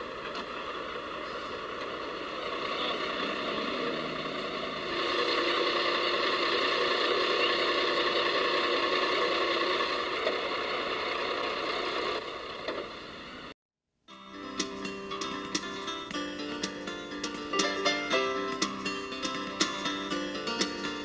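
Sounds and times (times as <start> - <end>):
truck engine running: 0.0 - 13.5, 14.4 - 21.0.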